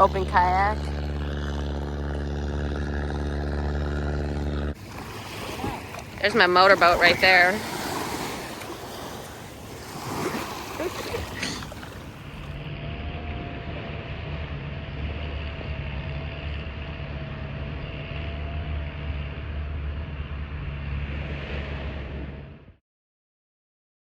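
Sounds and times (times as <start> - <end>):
engine rumbling with whine: 0.0 - 22.8.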